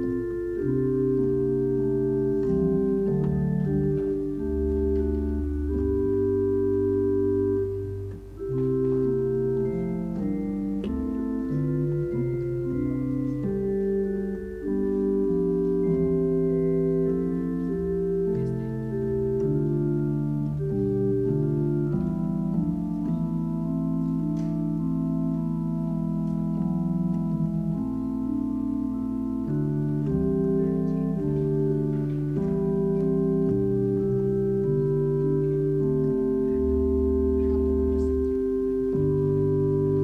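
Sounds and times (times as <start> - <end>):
organ playing slow chords: 0.0 - 40.0.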